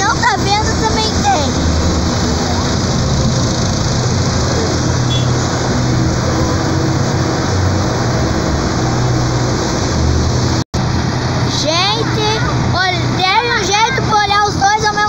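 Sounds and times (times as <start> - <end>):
tractor diesel engines: 0.0 - 15.0.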